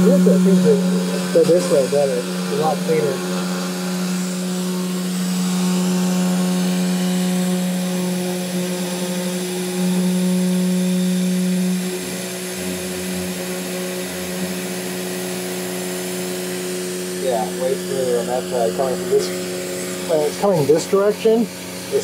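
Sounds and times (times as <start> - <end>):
router cutting metal: 0.0 - 22.0
uneven low hum: 0.0 - 22.0.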